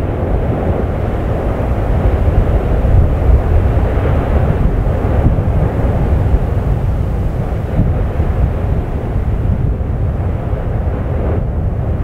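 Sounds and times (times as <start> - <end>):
volcano low rushing roar: 0.0 - 12.0.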